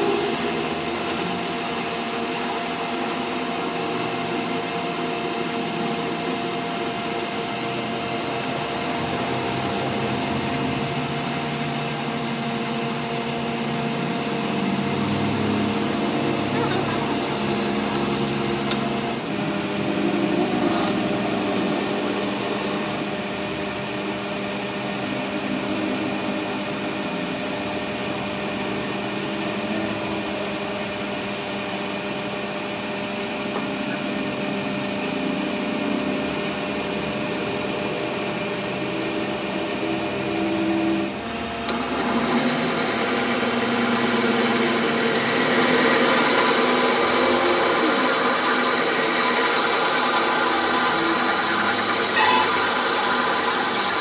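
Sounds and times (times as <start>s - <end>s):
power tool running: 0.0s - 54.0s.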